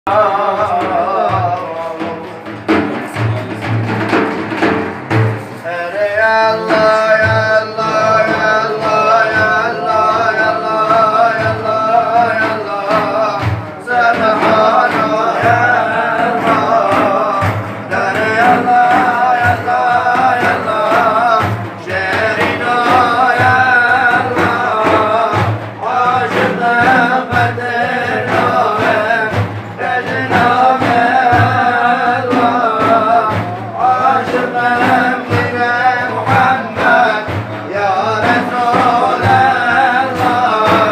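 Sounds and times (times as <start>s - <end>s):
man singing devotional chant: 0.0s - 4.3s, 5.6s - 40.9s
steady drum beat: 0.1s - 40.9s.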